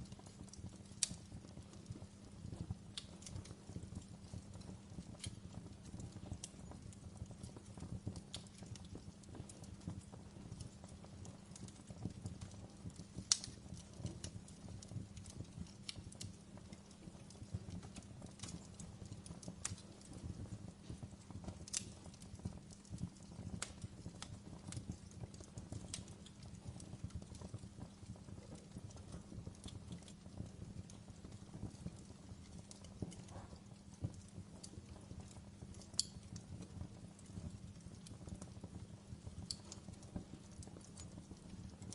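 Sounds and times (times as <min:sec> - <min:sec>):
fire flame rumble: 0:00.0 - 0:41.9
wood crackling and popping: 0:00.0 - 0:41.9.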